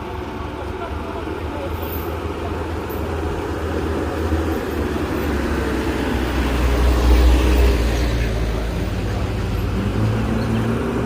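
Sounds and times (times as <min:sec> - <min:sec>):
heavy vehicle passing: 0:01.1 - 0:11.0.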